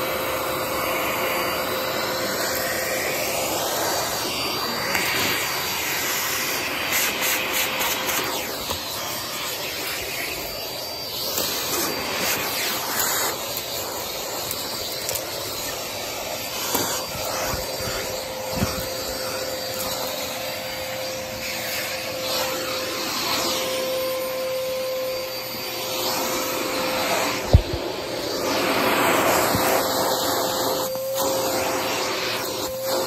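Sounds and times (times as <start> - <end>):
vacuum cleaner whining: 0.0 - 33.0.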